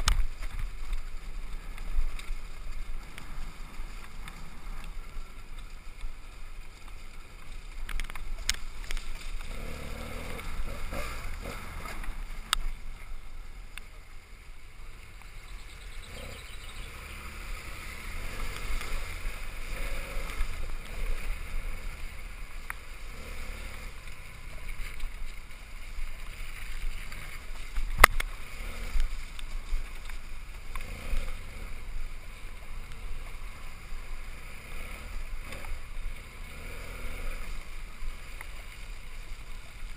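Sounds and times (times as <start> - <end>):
muffled motorcycle engine running: 0.0 - 39.9.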